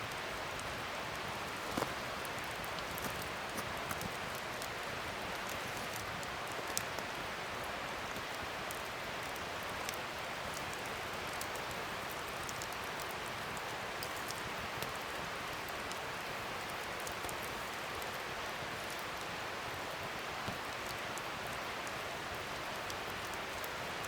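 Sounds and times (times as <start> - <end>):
wood fire crackling and hissing: 0.0 - 24.0.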